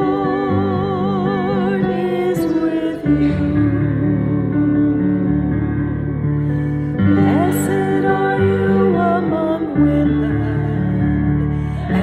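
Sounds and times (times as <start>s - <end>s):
hymn music with held chords: 0.0s - 12.0s.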